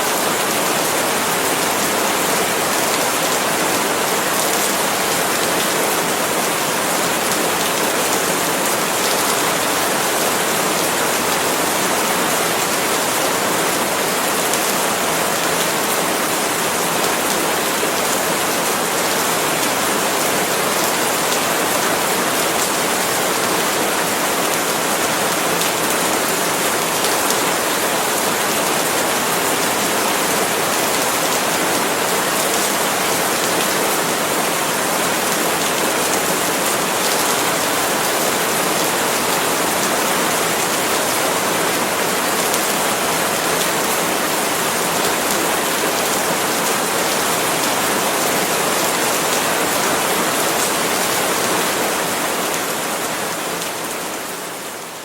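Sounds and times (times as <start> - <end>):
rain on palm leaves: 0.0 - 55.0.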